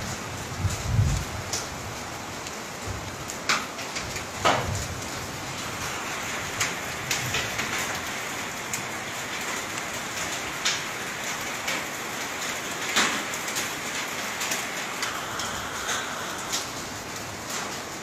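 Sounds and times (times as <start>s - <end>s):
close raindrops striking: 0.0s - 18.0s
rain pattering: 0.0s - 18.0s.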